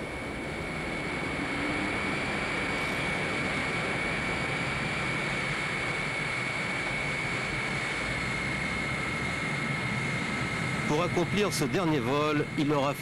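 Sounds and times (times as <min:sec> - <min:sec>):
high steady whine: 0:00.0 - 0:13.0
jet engines rushing: 0:00.0 - 0:13.0.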